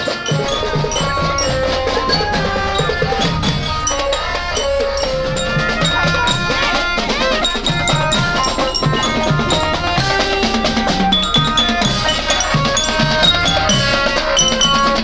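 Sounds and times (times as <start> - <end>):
metallic mallet percussion: 0.0 - 15.0
quick drum beat: 0.0 - 15.0.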